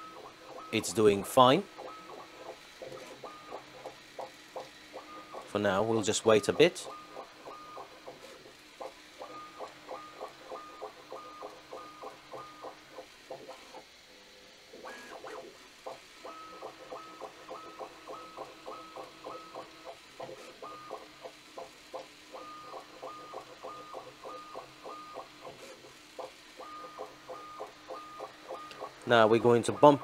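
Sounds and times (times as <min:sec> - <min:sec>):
printer stepper motors whining: 0:00.0 - 0:30.0.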